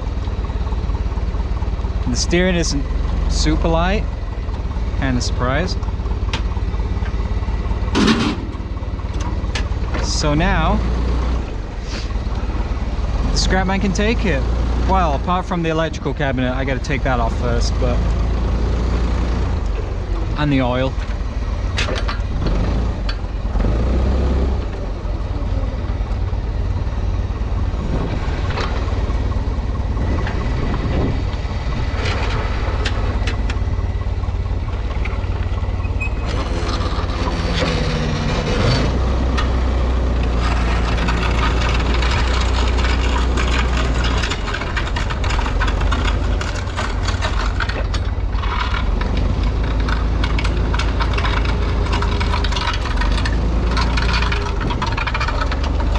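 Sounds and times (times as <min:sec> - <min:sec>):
knocks and rattles: 0:00.0 - 0:11.5, 0:12.4 - 0:24.9, 0:25.7 - 0:55.9
forklift engine running: 0:00.0 - 0:55.9.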